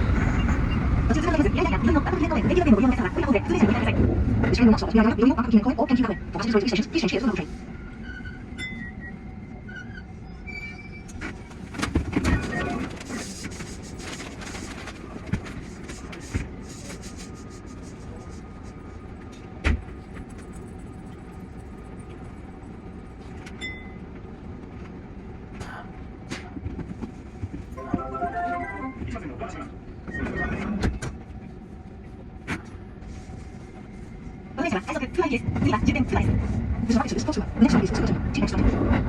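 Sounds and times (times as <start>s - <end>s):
train wheels rumbling on rail: 0.0s - 28.2s, 29.0s - 39.0s.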